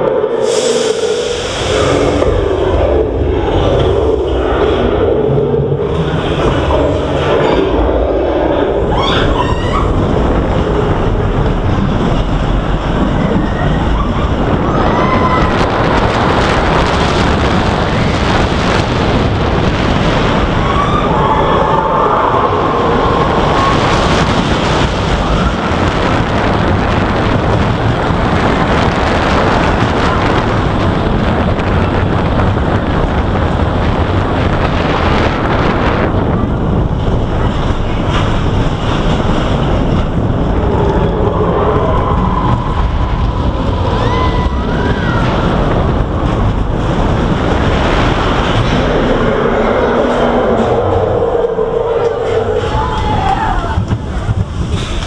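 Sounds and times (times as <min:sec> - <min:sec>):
roller coaster rumbling on track: 0:00.0 - 0:55.0
wind buffeting microphone: 0:00.0 - 0:55.0.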